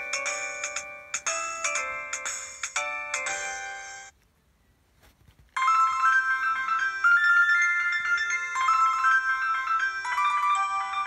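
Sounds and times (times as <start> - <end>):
phone ringtone melody: 0.0 - 4.1, 5.6 - 11.0.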